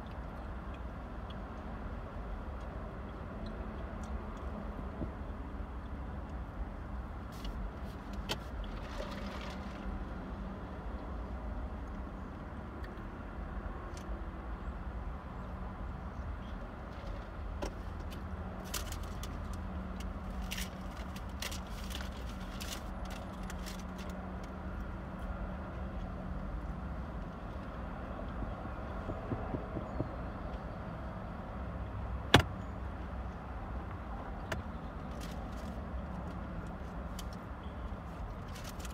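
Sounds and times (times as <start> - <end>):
car cabin rumble and hum: 0.0 - 38.9
traffic passing slowly: 0.0 - 38.9.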